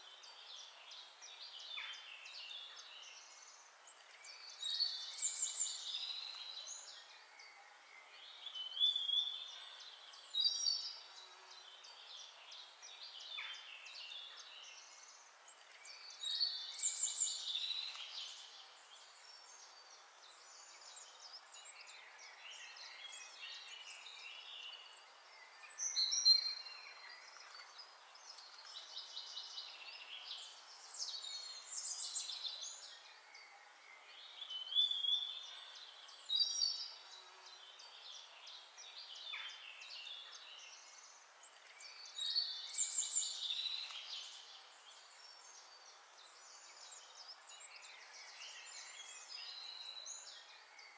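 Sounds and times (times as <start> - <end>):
birds chirping and trilling: 0.0 - 50.9
faint hiss: 0.0 - 50.9.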